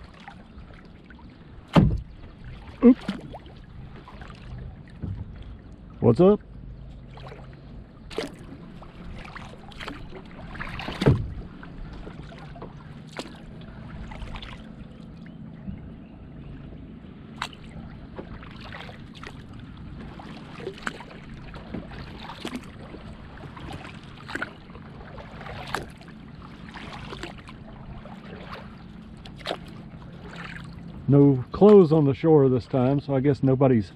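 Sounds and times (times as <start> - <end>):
kayak paddle splashing water: 0.0 - 6.1, 6.9 - 15.4, 17.2 - 32.9.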